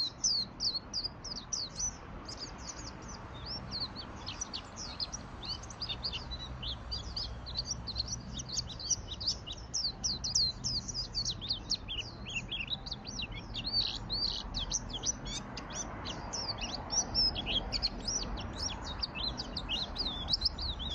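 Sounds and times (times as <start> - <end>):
bird chirping and trilling: 0.0 - 20.9.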